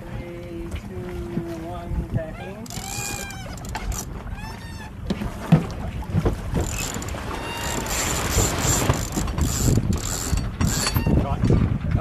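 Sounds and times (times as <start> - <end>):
water along boat hull: 0.0 - 12.0
wind buffeting microphone: 0.0 - 12.0.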